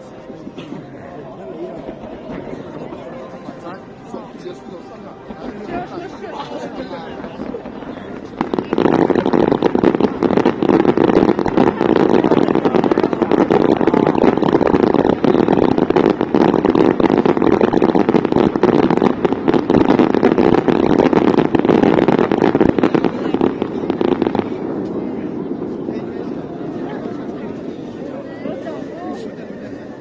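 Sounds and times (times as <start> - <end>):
firecrackers crackling: 0.0 - 30.0.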